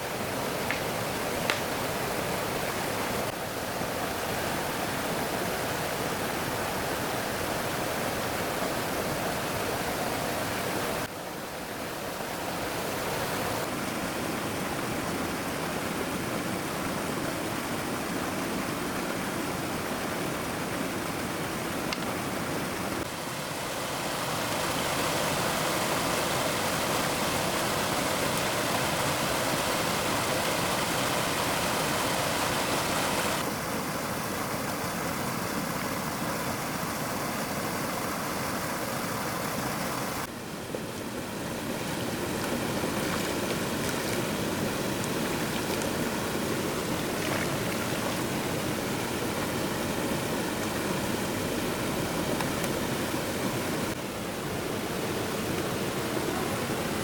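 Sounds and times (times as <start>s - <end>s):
rushing stream: 0.0s - 57.0s.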